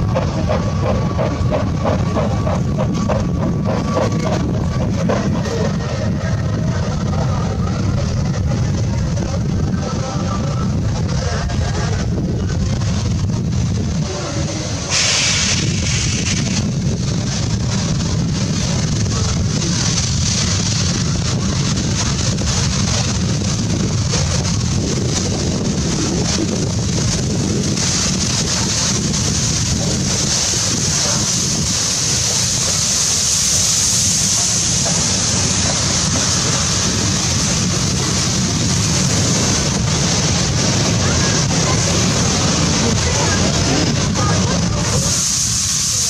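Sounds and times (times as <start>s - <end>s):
steam hissing: 0.0s - 46.0s
train rumbling along track: 0.0s - 46.0s
wind on microphone: 0.0s - 46.0s.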